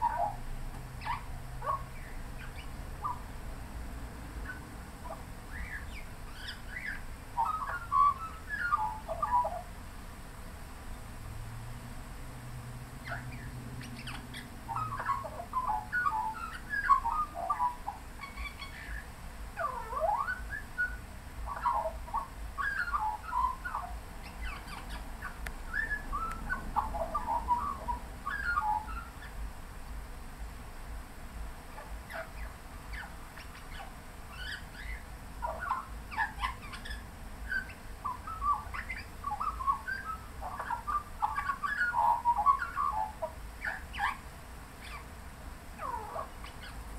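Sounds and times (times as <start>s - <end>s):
magpie singing: 0.0s - 0.4s, 1.0s - 3.3s, 4.4s - 9.7s, 13.0s - 29.4s, 31.8s - 44.2s, 44.8s - 45.1s, 45.8s - 46.9s.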